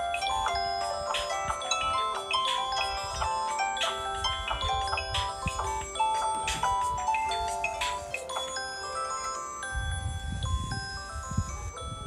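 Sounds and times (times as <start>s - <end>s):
phone ringtone: 0.0s - 12.0s.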